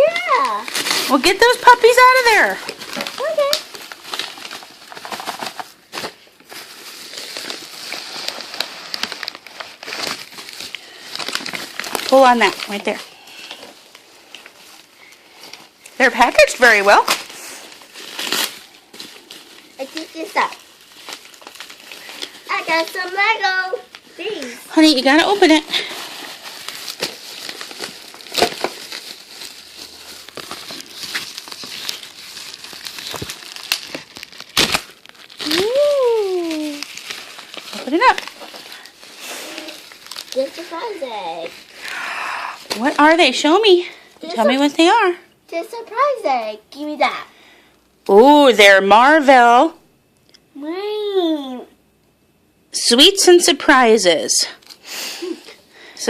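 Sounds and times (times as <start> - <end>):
packaging crinkling: 0.0 - 44.8, 54.4 - 55.9.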